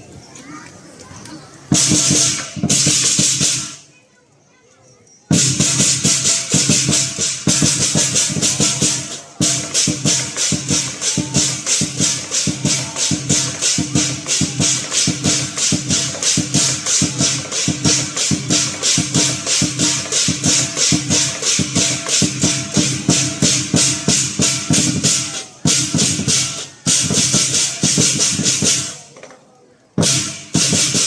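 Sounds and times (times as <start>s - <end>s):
drum beating: 1.7s - 3.9s, 5.3s - 29.3s, 30.0s - 31.0s
crashing cymbals: 1.8s - 3.9s, 5.3s - 29.1s, 30.0s - 31.0s.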